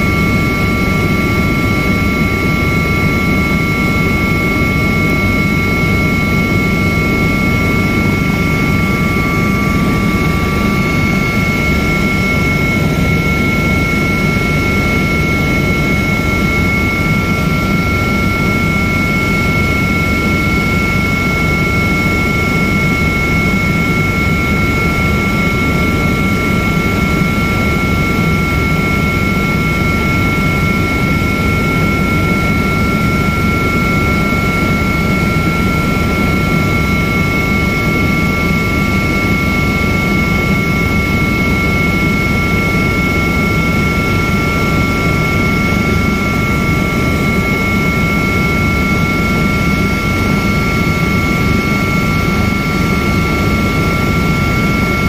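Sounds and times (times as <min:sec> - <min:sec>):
helicopter rotor and engine rumble: 0:00.0 - 0:55.0
high-pitched two-tone whine: 0:00.0 - 0:55.0.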